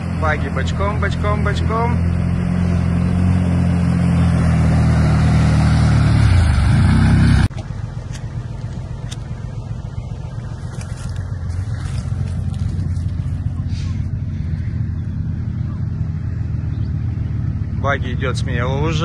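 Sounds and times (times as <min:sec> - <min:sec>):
buggy engine running under load: 0:00.0 - 0:19.0
low rumble: 0:00.0 - 0:19.0.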